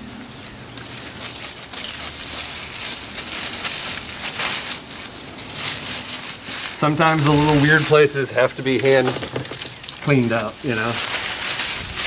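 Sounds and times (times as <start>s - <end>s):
dry leaves crunching: 0.0s - 12.0s.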